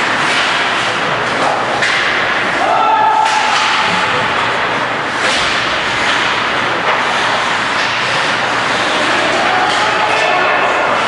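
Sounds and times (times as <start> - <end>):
skating and rink noise: 0.0 - 11.0.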